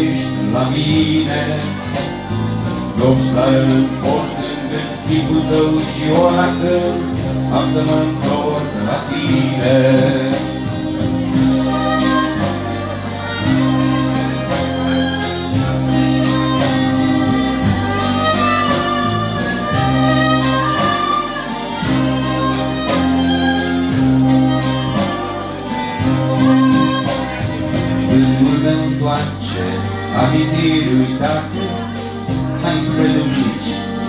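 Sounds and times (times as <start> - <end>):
electric violin melody: 0.0 - 34.0
low bass notes: 0.0 - 34.0
strummed acoustic guitar: 0.0 - 34.0.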